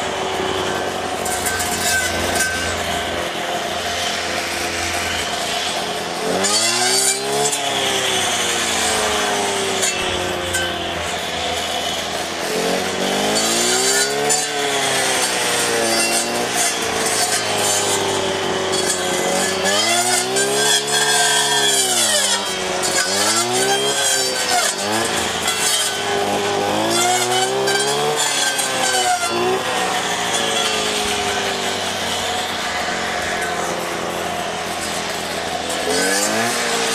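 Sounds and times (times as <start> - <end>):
strimmer engine revving: 0.0 - 36.9.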